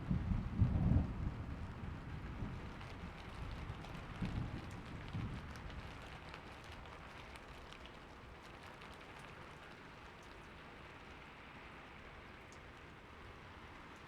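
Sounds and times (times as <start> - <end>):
faint steady rainfall: 0.0 - 14.0.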